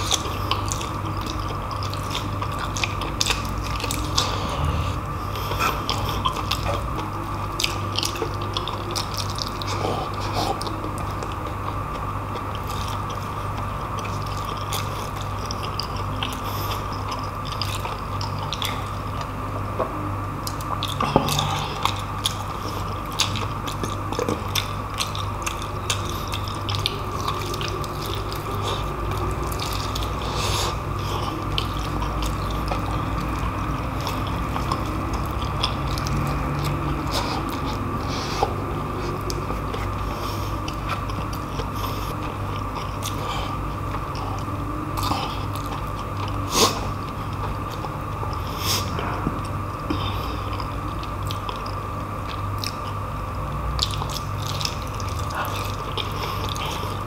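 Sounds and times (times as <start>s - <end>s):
background hum: 0.0s - 57.0s
wet chewing and lip smacks: 5.3s - 19.3s, 20.4s - 43.3s, 45.0s - 53.0s, 53.8s - 57.0s.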